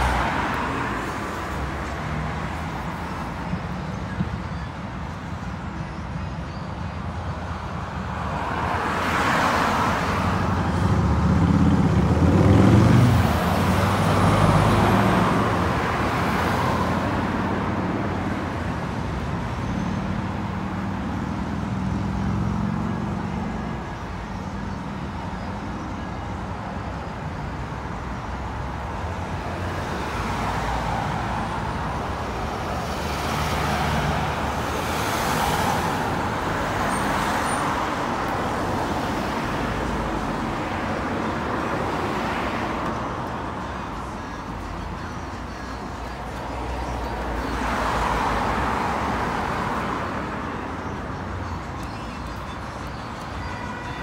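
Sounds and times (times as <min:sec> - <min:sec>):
cars driving past: 0:00.0 - 0:04.2, 0:07.8 - 0:23.9, 0:27.6 - 0:53.4.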